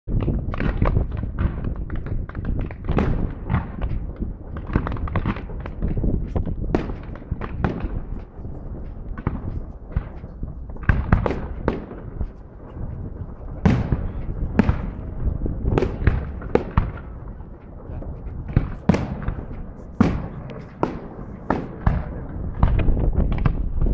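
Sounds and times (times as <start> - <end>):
distant firework shells bursting: 0.1 - 23.9.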